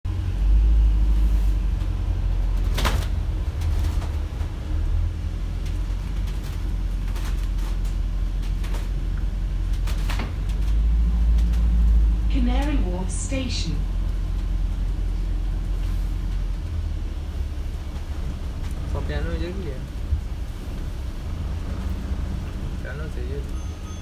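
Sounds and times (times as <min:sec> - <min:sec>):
vehicle rumble from inside: 0:00.0 - 0:24.0.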